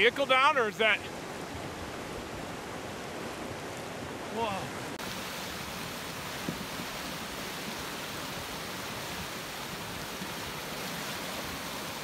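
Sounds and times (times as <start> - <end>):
muddy water rushing: 0.0 - 12.0.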